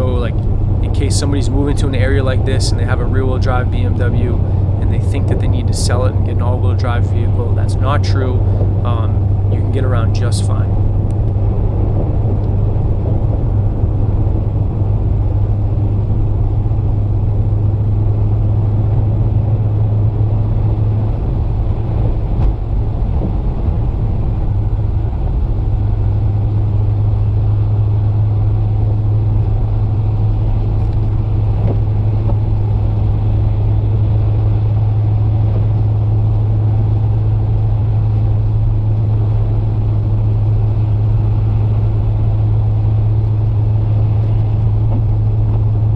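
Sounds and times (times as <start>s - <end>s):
car engine and tyre drone: 0.0s - 45.9s.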